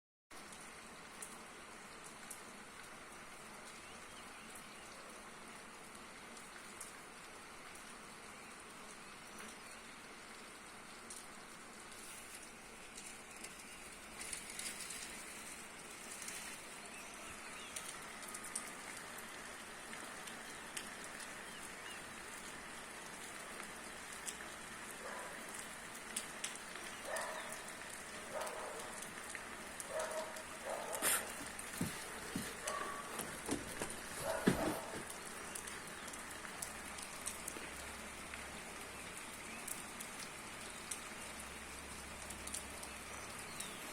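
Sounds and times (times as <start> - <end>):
rain falling: 0.3 - 43.9.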